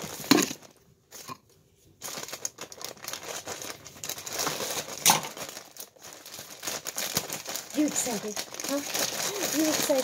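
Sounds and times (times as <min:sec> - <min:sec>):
plastic bag crinkling and tearing: 0:00.0 - 0:01.3, 0:02.0 - 0:10.0.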